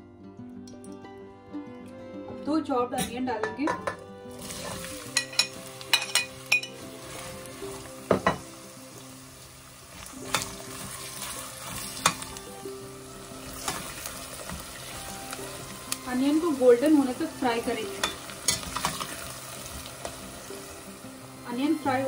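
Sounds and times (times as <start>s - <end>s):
onions sizzling in oil: 3.8s - 22.0s.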